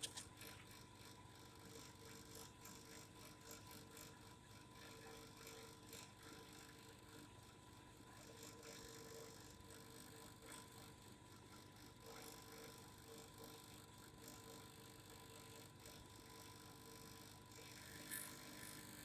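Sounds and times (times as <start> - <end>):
faint vibration hum: 0.0 - 19.0.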